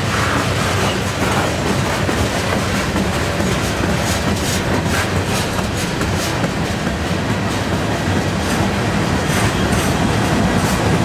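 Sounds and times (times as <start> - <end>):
boxcars rolling: 0.0 - 11.0
diesel locomotives droning: 0.0 - 11.0.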